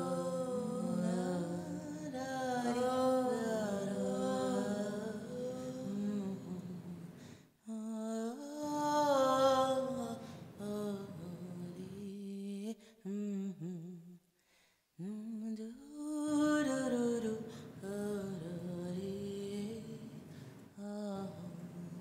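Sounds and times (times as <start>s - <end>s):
woman singing slow melody: 0.0s - 14.2s, 15.0s - 22.0s.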